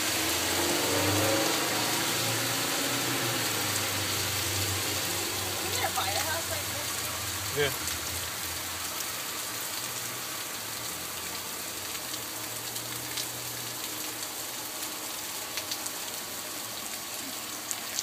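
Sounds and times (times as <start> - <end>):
heavy rain falling: 0.0 - 18.0
sharp drips: 0.1 - 18.0.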